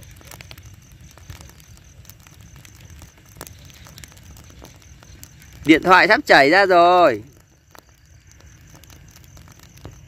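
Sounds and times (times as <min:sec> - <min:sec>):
burning straw crackling: 0:00.0 - 0:10.0
low fire rumble: 0:00.0 - 0:10.0.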